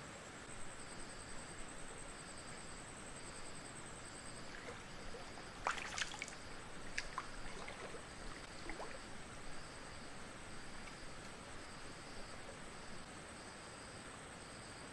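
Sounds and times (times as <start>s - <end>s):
pulsing insect call: 0.4s - 13.1s.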